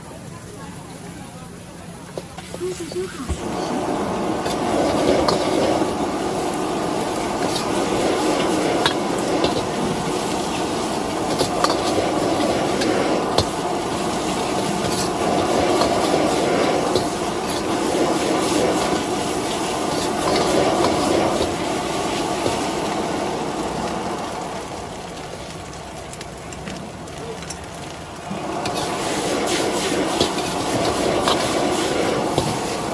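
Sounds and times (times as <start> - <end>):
food sizzling: 0.3 - 32.9
wok burner rushing: 2.0 - 32.9.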